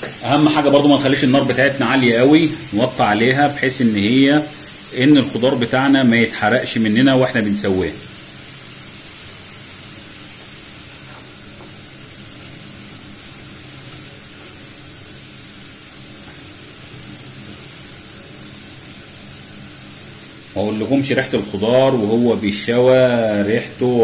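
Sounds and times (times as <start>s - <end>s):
vegetables sizzling in a frying pan: 0.0s - 24.0s.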